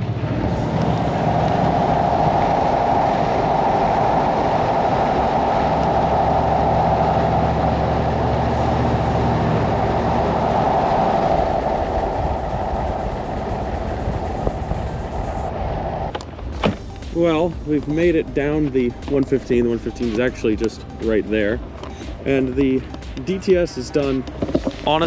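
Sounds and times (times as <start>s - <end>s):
car interior driving drone: 0.0s - 25.0s.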